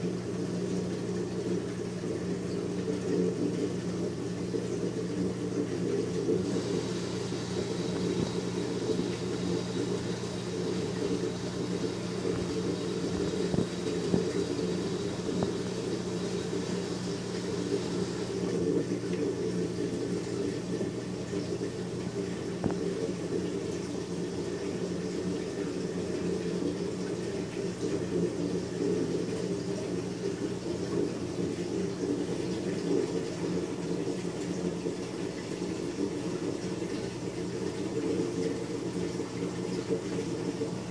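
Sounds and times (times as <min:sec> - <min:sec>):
circulating water hiss: 0:00.0 - 0:40.9
pumps humming: 0:00.0 - 0:40.9.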